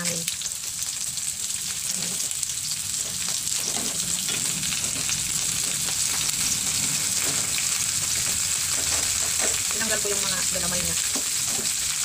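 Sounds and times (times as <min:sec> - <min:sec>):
crab frying in hot oil: 0:00.0 - 0:12.0.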